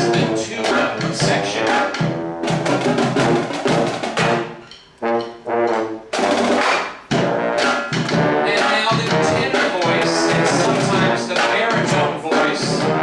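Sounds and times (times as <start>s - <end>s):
loud full-band hits: 0.0s - 13.0s
marching band playing: 0.0s - 13.0s.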